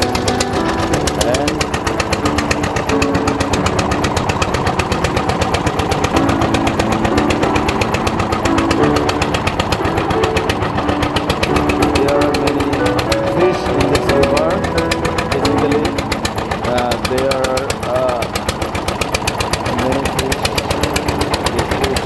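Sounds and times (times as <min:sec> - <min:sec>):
boat engine knocking: 0:00.0 - 0:22.0.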